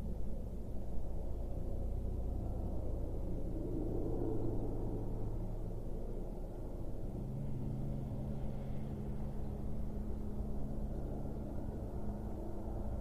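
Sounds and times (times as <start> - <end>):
distant engine drone: 0.0 - 13.0
steady hum tones: 0.0 - 13.0.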